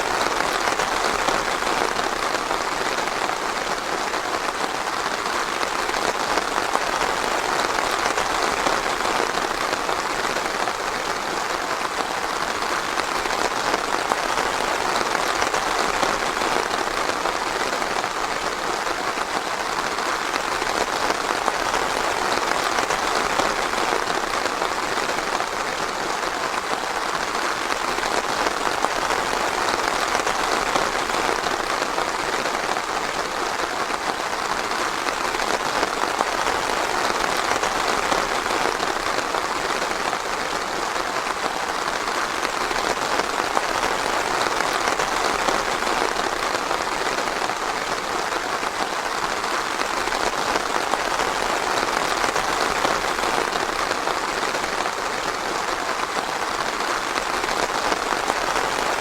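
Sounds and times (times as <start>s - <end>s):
dense rainfall: 0.0s - 59.0s.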